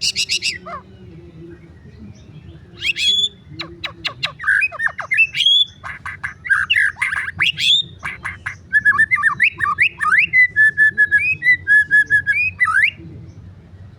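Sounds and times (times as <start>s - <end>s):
bird singing: 0.0s - 13.9s.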